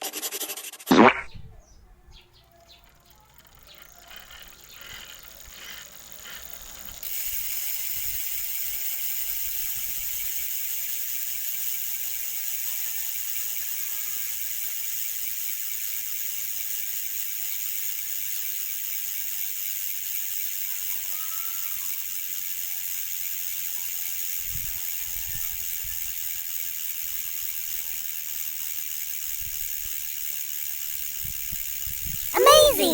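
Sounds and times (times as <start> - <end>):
bicycle hub ratcheting buzz: 2.5 - 32.3.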